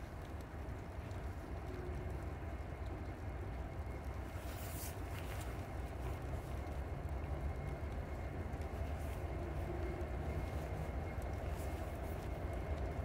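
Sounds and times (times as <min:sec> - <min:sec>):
distant diesel locomotives rumbling: 0:00.0 - 0:13.0.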